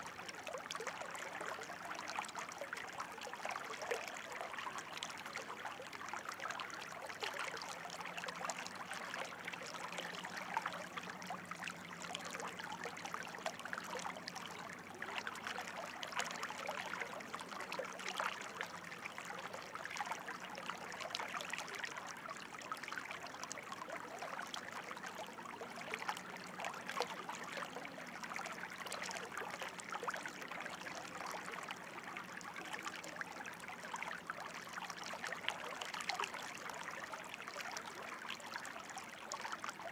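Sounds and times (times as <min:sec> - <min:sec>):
small water splashes: 0:00.0 - 0:39.9
water trickling and burbling: 0:00.0 - 0:39.9.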